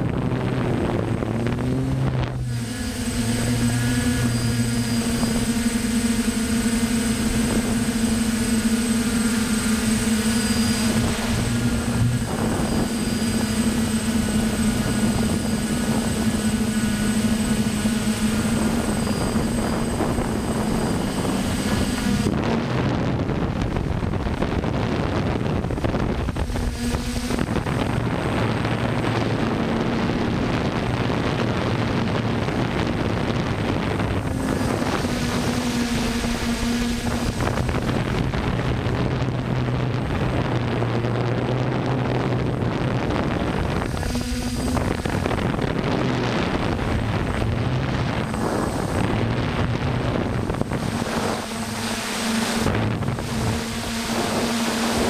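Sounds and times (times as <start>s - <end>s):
drone motors humming: 0.0s - 55.0s
wind on microphone: 0.0s - 55.0s.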